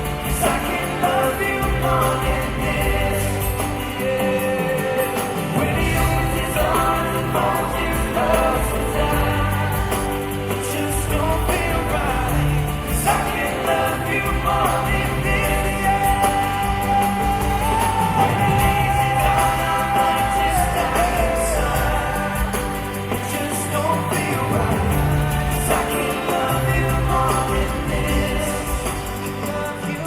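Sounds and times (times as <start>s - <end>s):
live band playing pop ballad: 0.0s - 30.0s
man singing: 0.0s - 30.0s.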